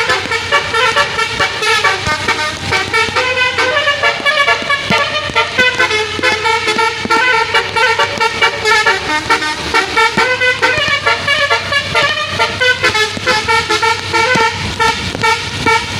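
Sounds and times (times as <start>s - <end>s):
musical vehicle horn melody: 0.0s - 15.9s.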